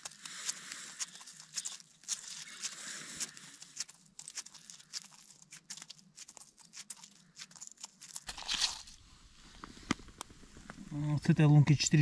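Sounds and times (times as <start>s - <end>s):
crunches on crusted snow: 0.0s - 9.9s.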